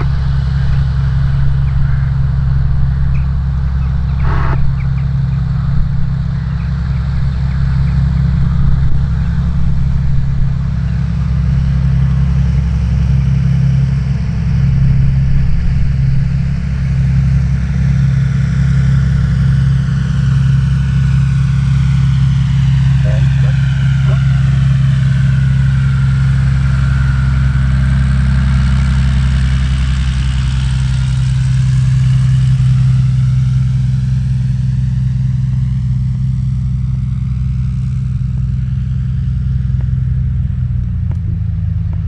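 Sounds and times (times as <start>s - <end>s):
low propeller drone: 0.0s - 42.0s
rising engine whine: 0.0s - 42.0s.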